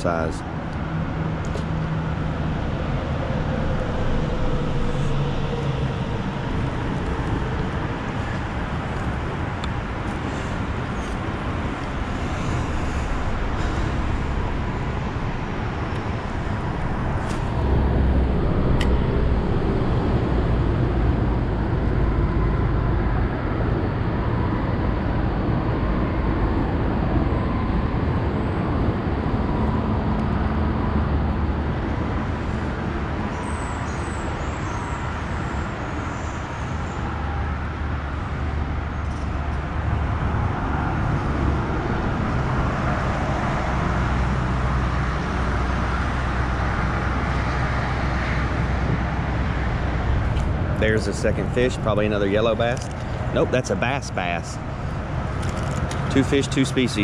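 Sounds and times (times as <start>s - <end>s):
road traffic rumble on bridge: 0.0s - 57.0s.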